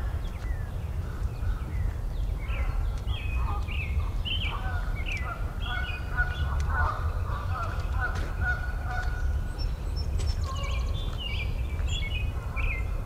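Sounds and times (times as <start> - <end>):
lower longer bird calls: 0.0 - 13.0
songbirds chirping and singing: 0.0 - 13.0
steady low rumble: 0.0 - 13.0.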